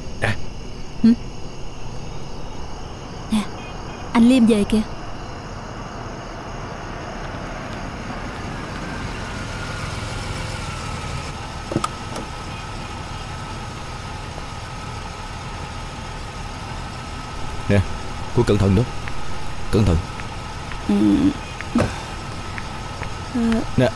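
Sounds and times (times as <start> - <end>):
car engine idling: 1.6 - 23.9.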